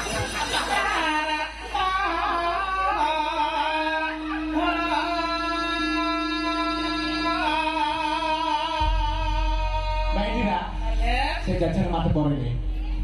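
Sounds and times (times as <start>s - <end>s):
sustained accompanying tone: 0.0s - 13.0s
person singing wavering notes: 0.9s - 11.4s.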